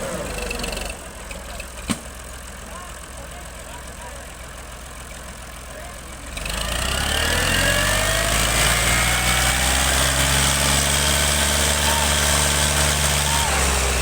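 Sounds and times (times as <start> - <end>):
tractor engine revving: 0.0 - 14.0.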